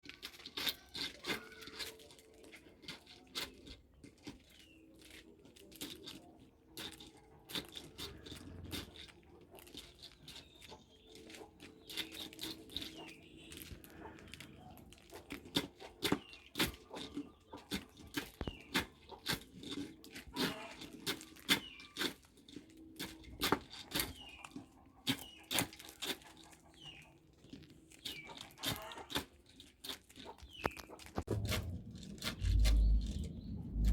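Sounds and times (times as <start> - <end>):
corn sheller crunching kernels: 0.0 - 33.9.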